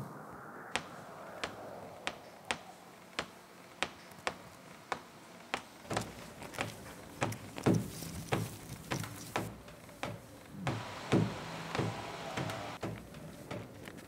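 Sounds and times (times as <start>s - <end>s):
low thuds: 0.0s - 13.1s.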